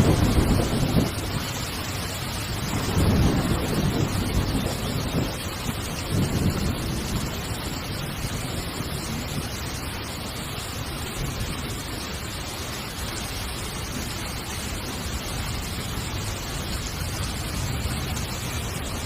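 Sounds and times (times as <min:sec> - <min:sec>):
heavy rain on a tent: 0:00.0 - 0:19.0.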